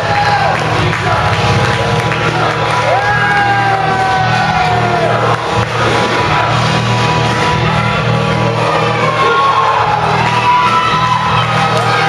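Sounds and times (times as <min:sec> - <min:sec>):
crowd shouting: 0:00.0 - 0:12.0
loud music over pa system: 0:00.0 - 0:12.0.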